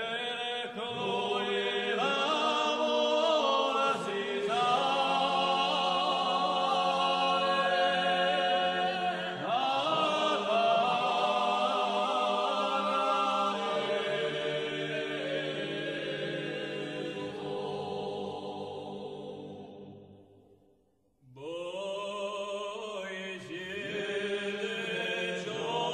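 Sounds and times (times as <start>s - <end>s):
voices singing slow chant: 0.0s - 20.6s, 21.3s - 25.9s.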